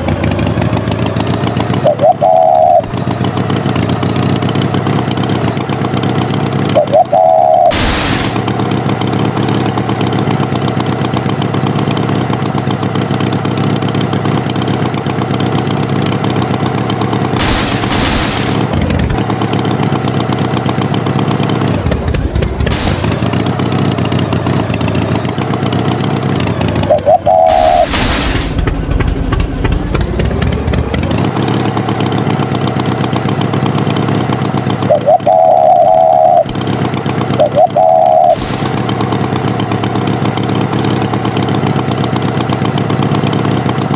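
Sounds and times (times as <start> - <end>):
tractor engine chugging: 0.0 - 43.9.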